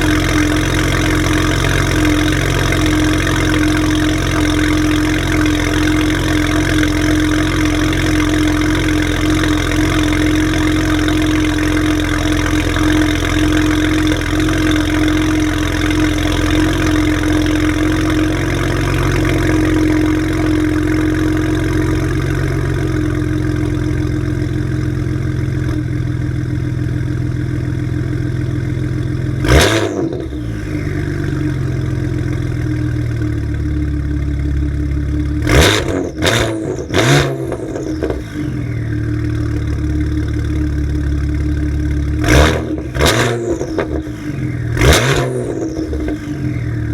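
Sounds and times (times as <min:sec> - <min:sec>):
engine revving: 0:00.0 - 0:24.9, 0:29.1 - 0:32.6, 0:35.3 - 0:46.9
car engine idling: 0:00.0 - 0:46.9.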